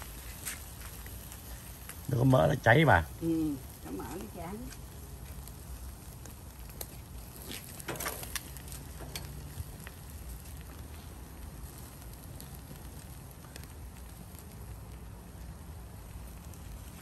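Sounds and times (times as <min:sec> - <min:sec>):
fat crackling and popping: 0:00.0 - 0:17.0
low steady rumble: 0:00.0 - 0:17.0.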